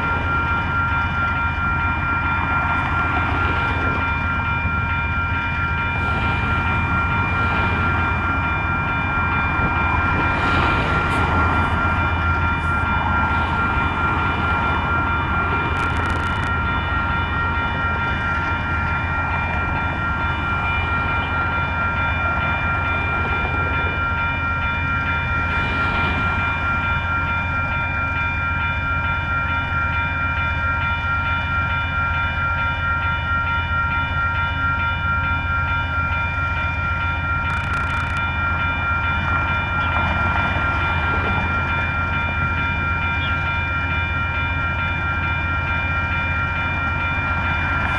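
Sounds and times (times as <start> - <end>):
diesel locomotive engine hum: 0.0 - 47.9.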